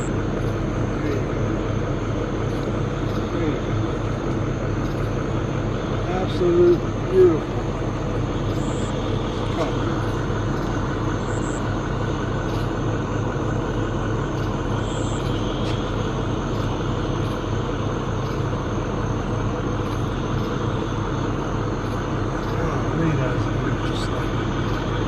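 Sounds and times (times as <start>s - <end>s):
constant hiss: 0.0s - 25.0s
truck engine idling: 0.0s - 25.0s.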